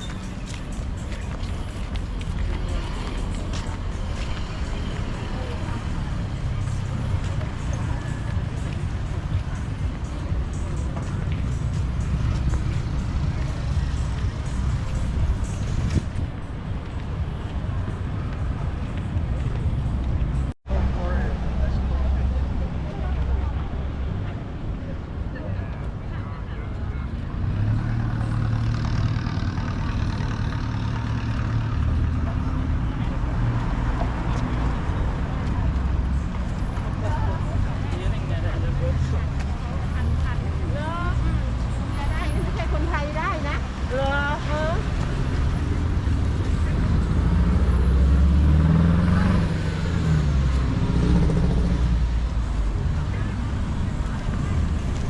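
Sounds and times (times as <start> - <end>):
street noise: 0.0 - 55.0.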